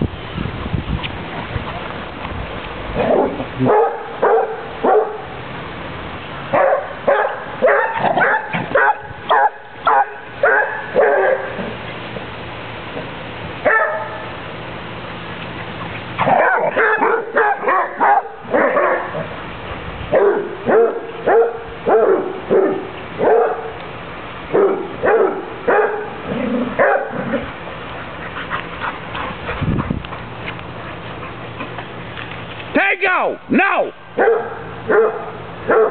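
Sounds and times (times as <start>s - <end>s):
dogs barking in play: 2.9s - 5.6s, 6.4s - 12.3s, 12.9s - 32.2s, 34.1s - 35.9s.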